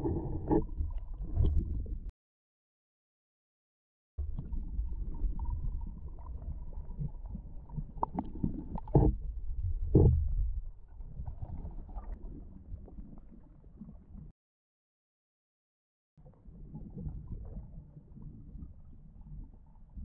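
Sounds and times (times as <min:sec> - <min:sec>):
underwater gurgling water: 0:00.0 - 0:02.1, 0:04.2 - 0:14.3, 0:16.2 - 0:20.0.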